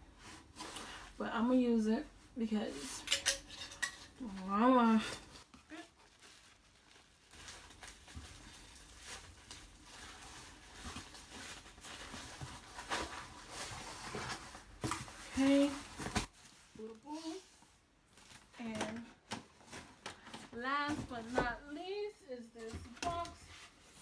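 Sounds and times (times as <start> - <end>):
rustling of packaging: 0.1 - 1.2, 3.7 - 24.0.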